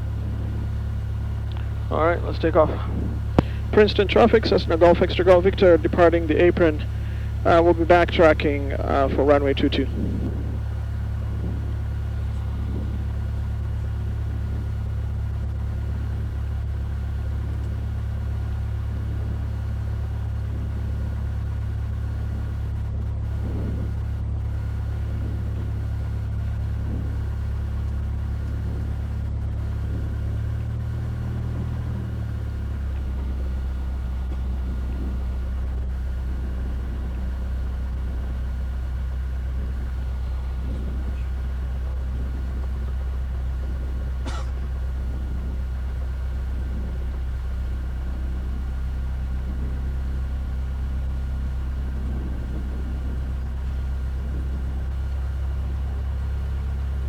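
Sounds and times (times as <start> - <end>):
airplane piston engine droning: 0.0 - 57.0.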